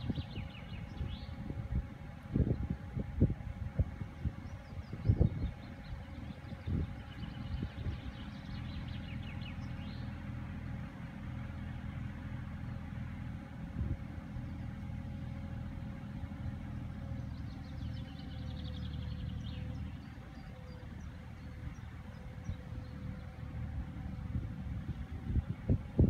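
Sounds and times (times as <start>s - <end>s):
excavator engine humming: 0.0s - 26.0s.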